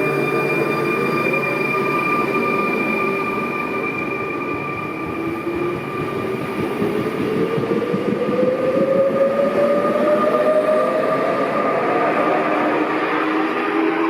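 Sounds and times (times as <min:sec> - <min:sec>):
steady high tone: 0:00.0 - 0:14.0
train wheels rumbling: 0:00.0 - 0:14.0.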